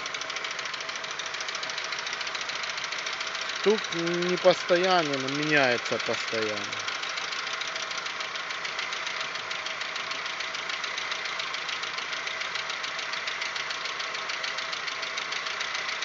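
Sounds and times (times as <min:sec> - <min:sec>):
car engine idling: 0:00.0 - 0:16.0
rapid metallic ticking: 0:00.0 - 0:16.0.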